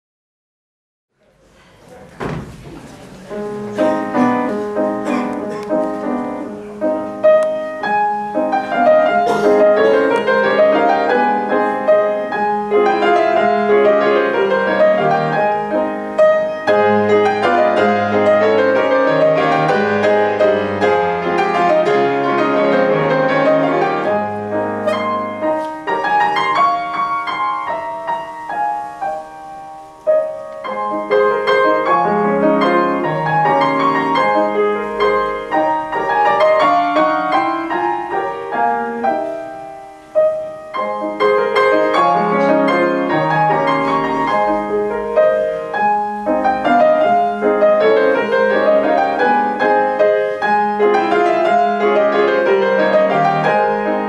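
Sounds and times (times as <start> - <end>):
grand piano playing: 1.2 - 54.0.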